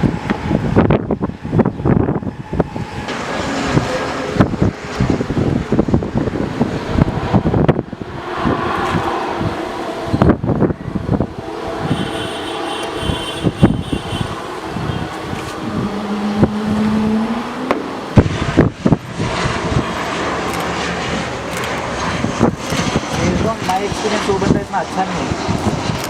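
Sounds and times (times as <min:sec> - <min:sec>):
jet airliner engine: 0:00.0 - 0:26.0
wind buffeting microphone: 0:00.0 - 0:26.0.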